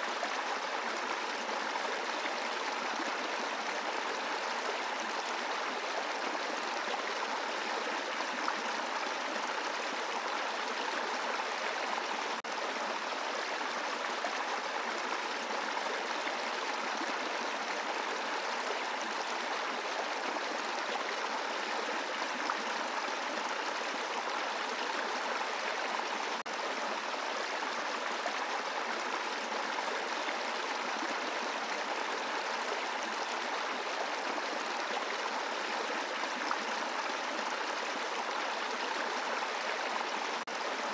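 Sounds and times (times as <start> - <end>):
brook babbling over rocks: 0.0 - 40.9.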